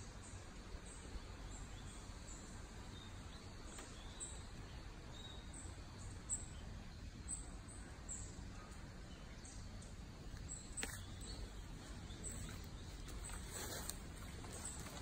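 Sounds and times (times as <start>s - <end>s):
faint outdoor hum: 0.0s - 15.0s
small birds chirping: 0.0s - 15.0s.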